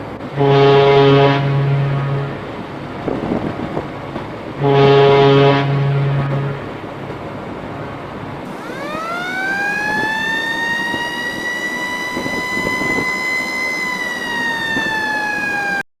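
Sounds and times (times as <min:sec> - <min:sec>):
ship's horn: 0:00.2 - 0:07.0, 0:08.5 - 0:15.8.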